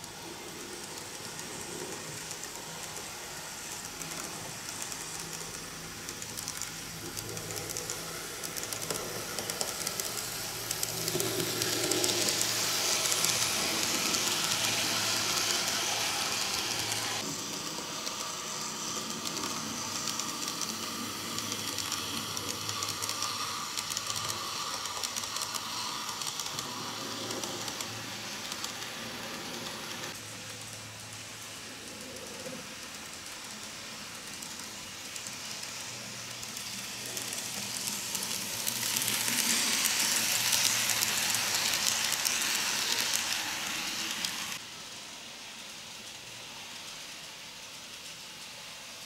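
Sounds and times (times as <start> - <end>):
model train rolling on track: 0.0 - 49.0.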